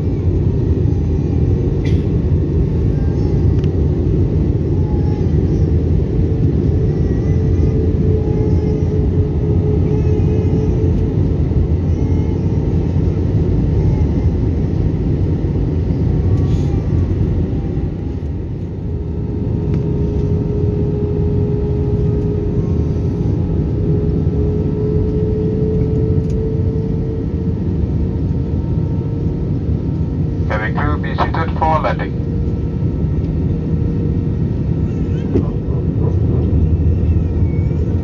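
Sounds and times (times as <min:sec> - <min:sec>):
airplane cabin engine rumble: 0:00.0 - 0:38.0.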